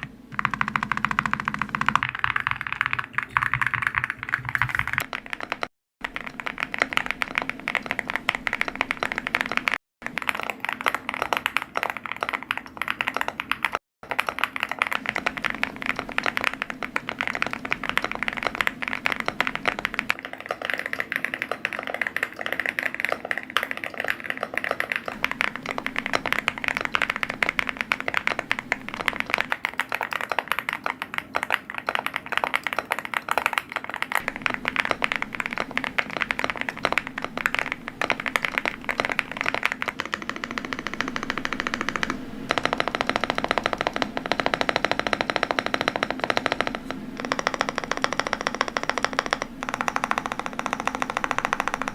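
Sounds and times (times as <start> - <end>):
rapid keyboard typing: 0.0 - 51.9.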